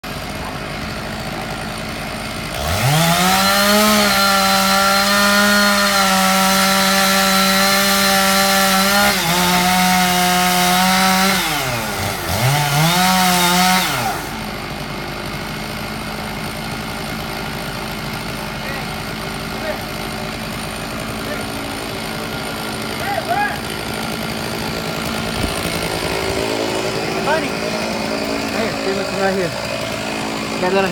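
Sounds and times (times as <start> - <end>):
chainsaw revving: 0.0 - 30.9.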